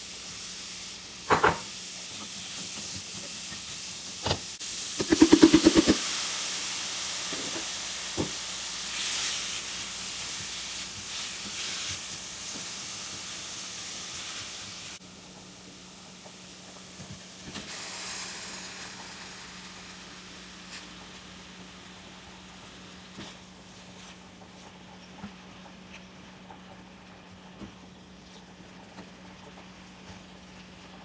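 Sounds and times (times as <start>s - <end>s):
food sizzling on a stove: 0.0s - 31.0s.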